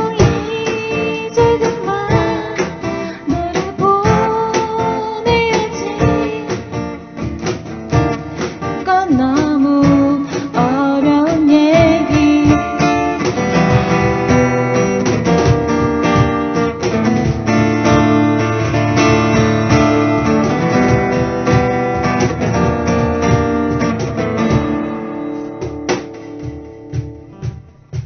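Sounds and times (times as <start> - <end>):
acoustic guitar strumming and picking: 0.0 - 28.0.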